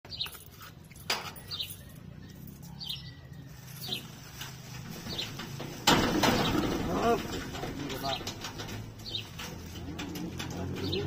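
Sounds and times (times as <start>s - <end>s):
small birds chirping: 0.1s - 0.5s, 1.2s - 4.4s, 5.0s - 5.6s, 6.2s - 11.0s.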